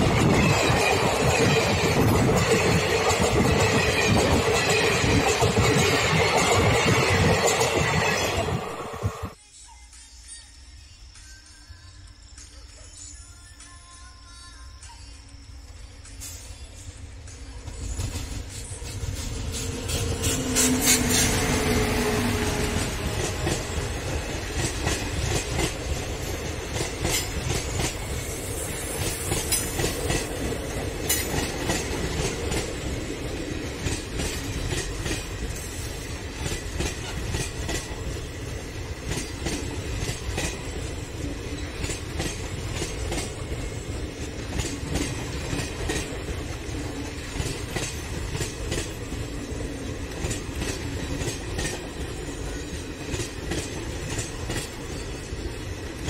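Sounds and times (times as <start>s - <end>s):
train rumbling past: 0.0s - 9.4s, 15.8s - 56.0s.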